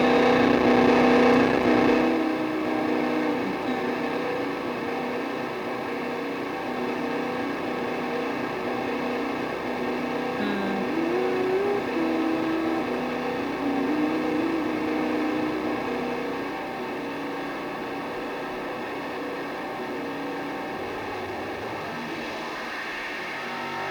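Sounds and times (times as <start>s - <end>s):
droning guitar with delay and reverb: 0.0s - 23.9s.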